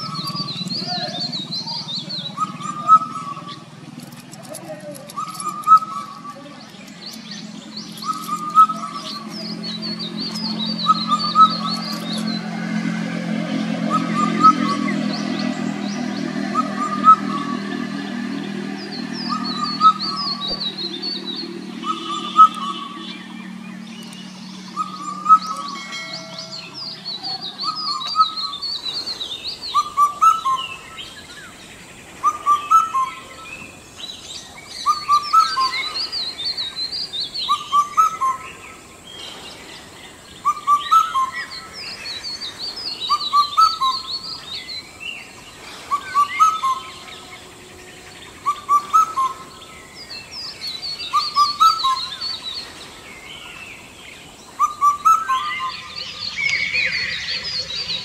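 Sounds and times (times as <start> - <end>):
cuckoo whistled call: 0.0 - 4.3, 4.9 - 6.5, 7.1 - 31.6, 32.2 - 39.4, 40.4 - 53.6, 54.5 - 58.0
birds chirping: 0.0 - 58.0.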